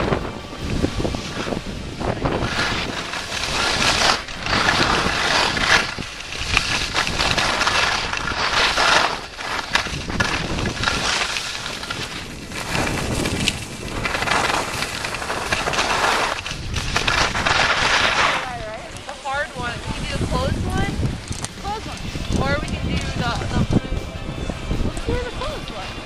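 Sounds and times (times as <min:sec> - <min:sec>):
skis scraping over snow: 0:00.0 - 0:26.0.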